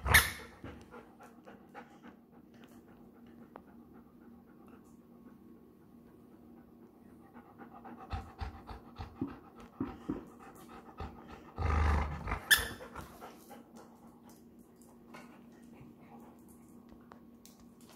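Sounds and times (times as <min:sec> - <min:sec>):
dog panting and snuffling: 0:00.2 - 0:16.6.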